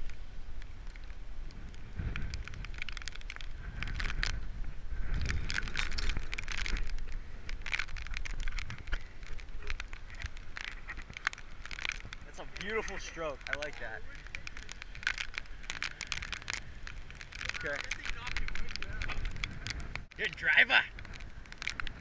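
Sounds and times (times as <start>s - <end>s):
rain clicking on camera: 0.0s - 22.0s
strong wind buffeting microphone: 0.0s - 22.0s.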